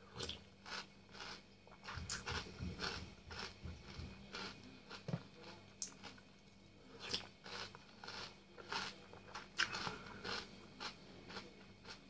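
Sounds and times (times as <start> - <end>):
person chewing cereal: 0.0 - 12.0.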